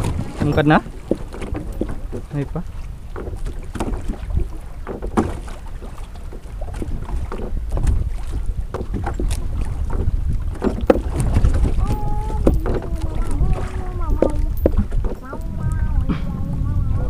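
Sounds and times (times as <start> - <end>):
knocks and splashes: 0.0 - 17.0
wind rumbling on microphone: 0.0 - 17.0.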